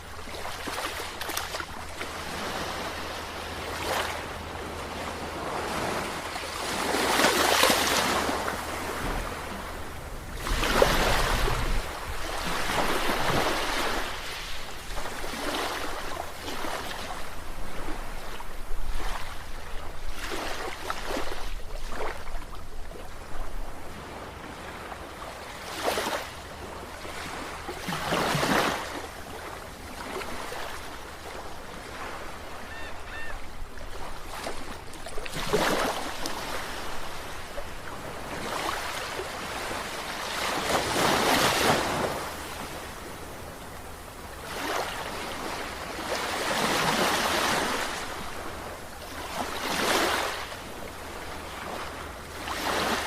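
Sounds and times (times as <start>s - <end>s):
sea waves breaking: 0.0s - 22.6s, 23.2s - 53.0s.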